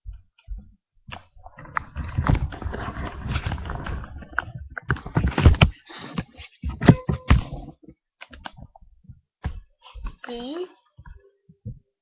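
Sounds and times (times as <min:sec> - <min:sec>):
knocks and thumps: 0:00.0 - 0:10.3.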